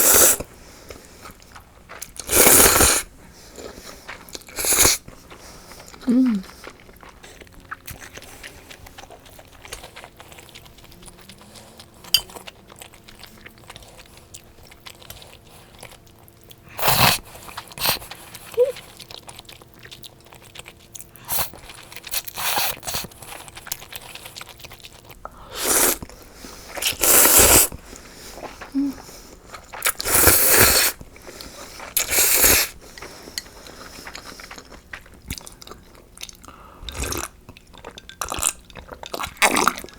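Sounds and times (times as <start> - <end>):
chewing: 0.1 - 39.9.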